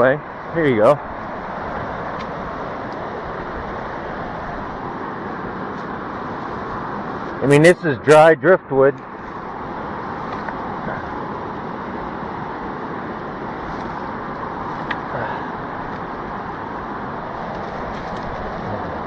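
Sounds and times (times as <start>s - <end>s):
river water rushing: 0.0s - 8.3s, 9.0s - 19.0s.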